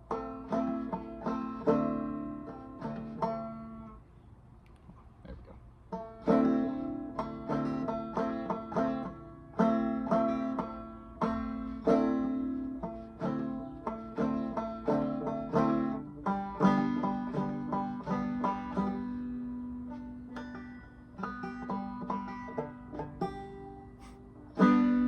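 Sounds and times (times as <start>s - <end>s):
banjo plucking and strumming: 0.0s - 4.0s, 5.9s - 25.0s.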